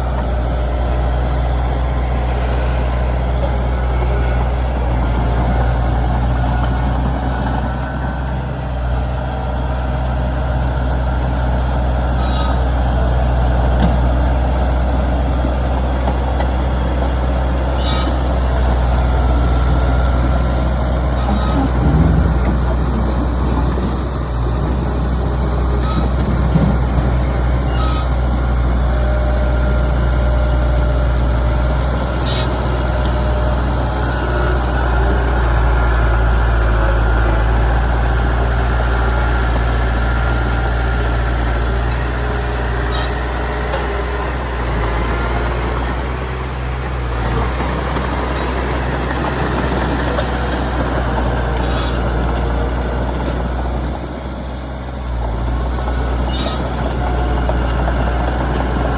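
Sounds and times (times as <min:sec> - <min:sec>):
bulldozer diesel engine drone: 0:00.0 - 0:58.9.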